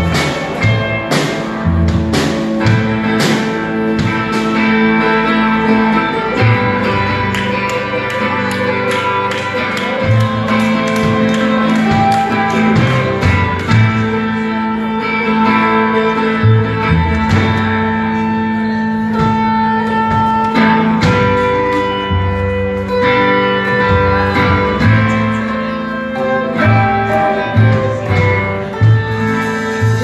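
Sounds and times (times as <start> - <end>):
bass line: 0.0 - 30.0
drums: 0.0 - 30.0
electric guitar sustained notes: 0.0 - 30.0.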